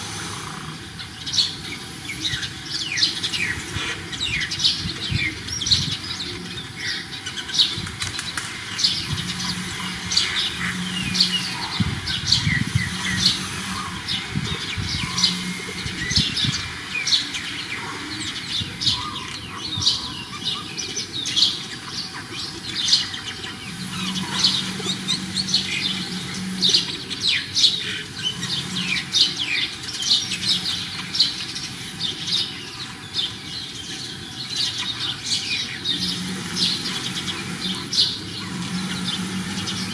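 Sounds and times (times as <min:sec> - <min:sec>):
low drone: 0:00.0 - 0:39.9
small birds chirping: 0:00.0 - 0:39.9.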